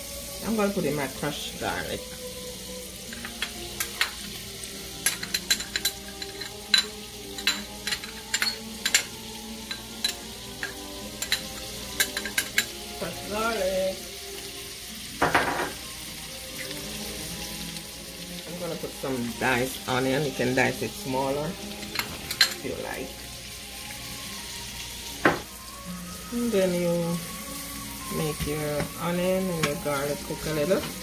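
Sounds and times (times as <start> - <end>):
garlic sizzling in hot oil: 0.0 - 31.0.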